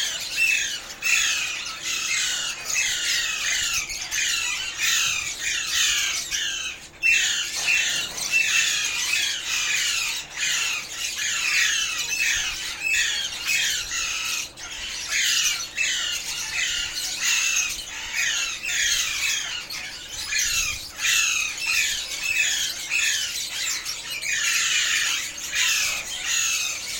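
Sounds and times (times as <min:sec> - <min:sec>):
parrots squawking: 0:00.0 - 0:26.9.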